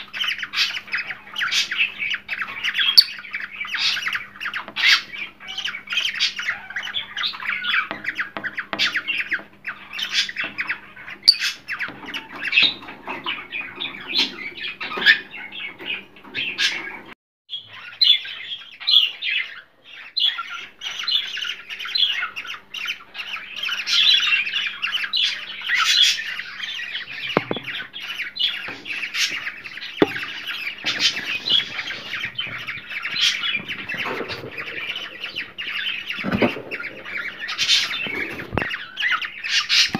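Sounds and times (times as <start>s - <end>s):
cockatiels chattering and squawking: 0.0s - 39.9s.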